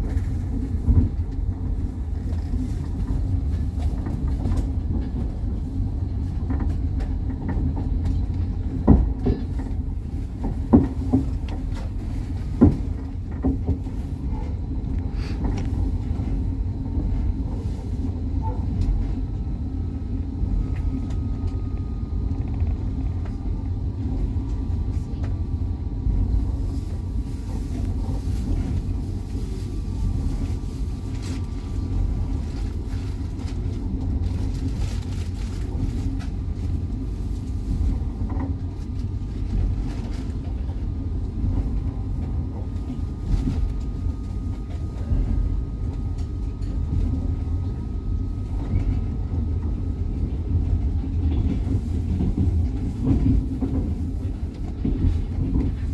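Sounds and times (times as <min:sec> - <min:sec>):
train rumbling: 0:00.0 - 0:55.9.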